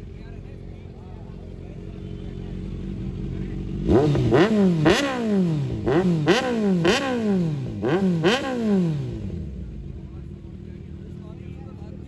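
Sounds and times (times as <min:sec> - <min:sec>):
motorcycle engine revving: 0:01.4 - 0:12.0.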